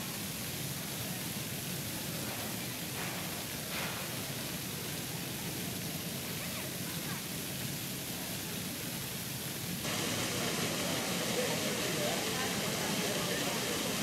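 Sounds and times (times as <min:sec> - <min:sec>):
fountain jets splashing: 0:00.0 - 0:14.0.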